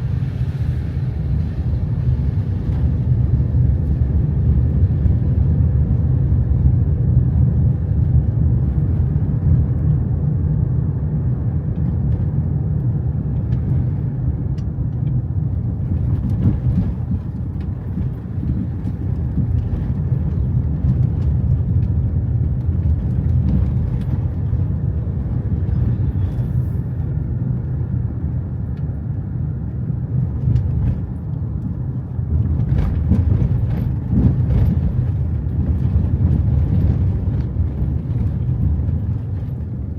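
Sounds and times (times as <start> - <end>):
car rumbling on road: 0.0 - 39.9.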